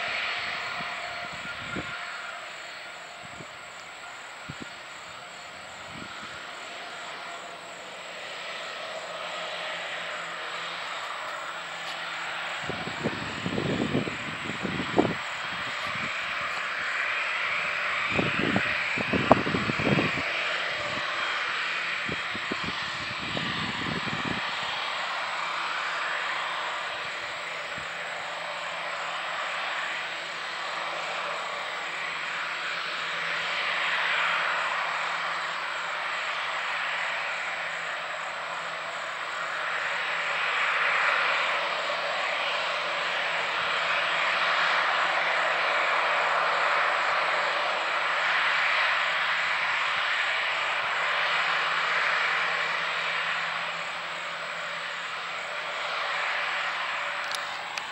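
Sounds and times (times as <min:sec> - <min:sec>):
jet engines rushing: 0:00.0 - 0:57.9.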